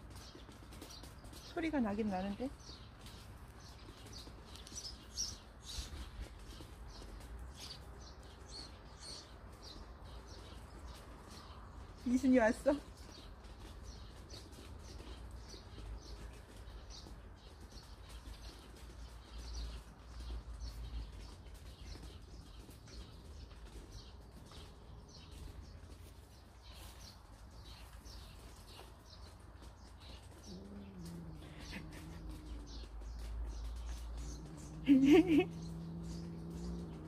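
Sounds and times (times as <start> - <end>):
sparrow chirping: 0.0 - 37.0.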